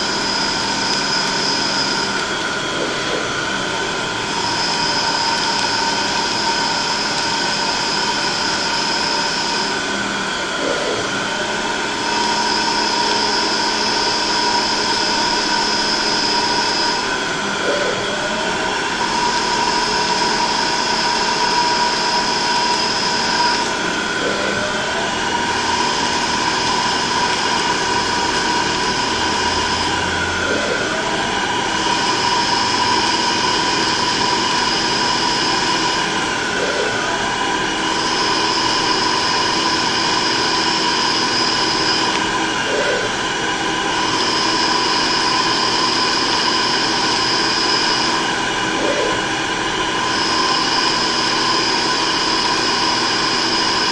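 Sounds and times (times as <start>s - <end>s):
high-pitched machine tone: 0.0s - 53.9s
machine tool mechanical whine: 0.0s - 53.9s.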